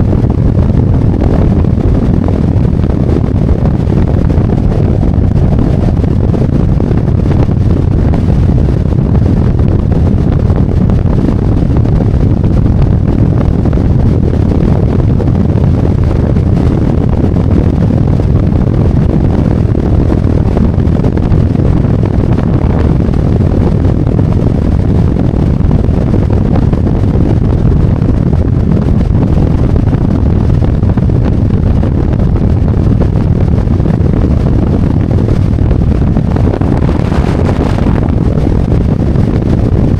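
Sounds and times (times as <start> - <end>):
motorcycle engine and road noise: 0.0 - 39.9
wind buffeting microphone: 0.0 - 39.9.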